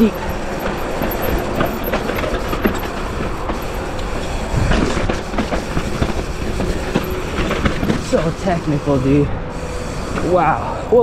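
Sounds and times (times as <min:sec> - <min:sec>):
bike frame and chain rattling: 0:00.0 - 0:11.0
bike tires grinding over dirt: 0:00.0 - 0:11.0.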